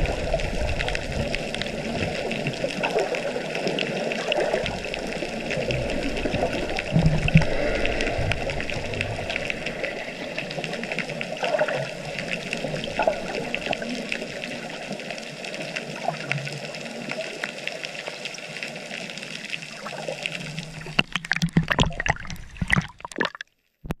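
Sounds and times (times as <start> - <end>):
muffled underwater rushing: 0.0 - 23.4
water splashing: 0.0 - 23.6
underwater clicks and bubbling: 0.0 - 24.0.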